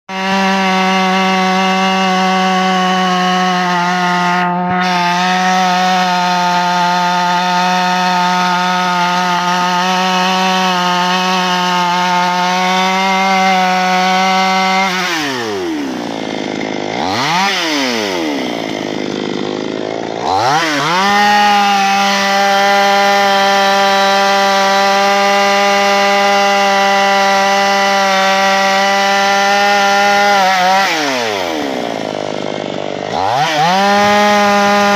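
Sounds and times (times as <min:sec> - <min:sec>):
chainsaw revving: 0:00.1 - 0:34.9.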